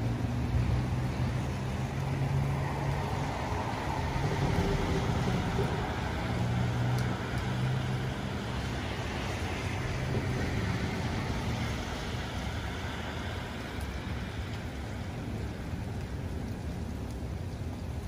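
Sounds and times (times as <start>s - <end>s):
car passing on wet road: 0.0s - 18.0s
steady rain: 0.0s - 18.0s.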